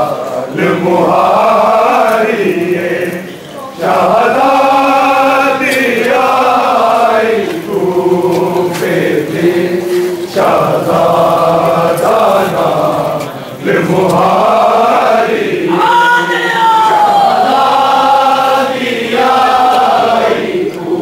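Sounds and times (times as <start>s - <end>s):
men chanting a mourning lament: 0.0s - 21.0s.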